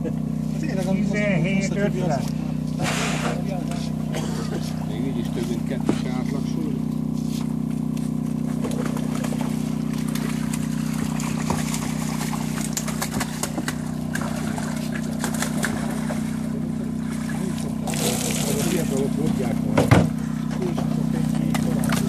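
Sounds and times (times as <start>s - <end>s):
truck motor hum: 0.0s - 22.0s.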